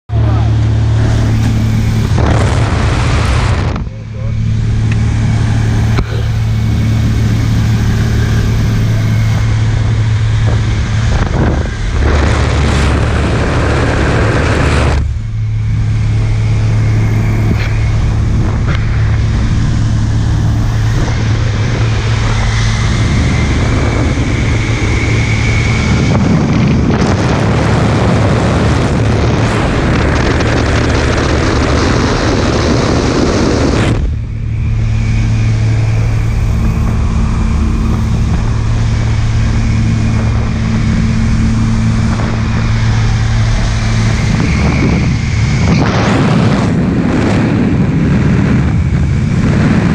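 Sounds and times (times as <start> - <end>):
airplane engine droning: 0.1 - 49.9
wind rushing: 0.5 - 49.9.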